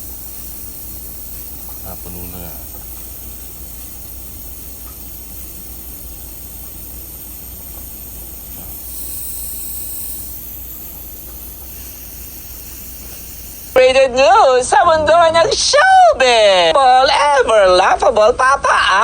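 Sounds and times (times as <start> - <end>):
gas hissing from canister: 0.0 - 17.0.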